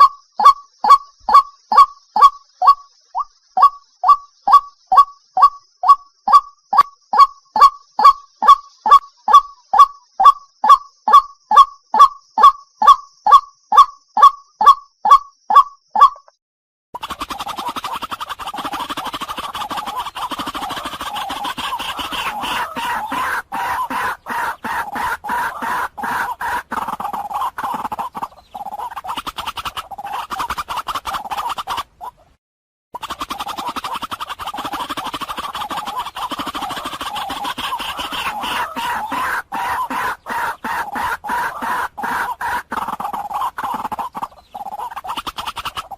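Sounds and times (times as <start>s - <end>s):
bird harsh repeated calls: 0.0s - 16.4s, 17.0s - 32.4s, 33.0s - 45.9s.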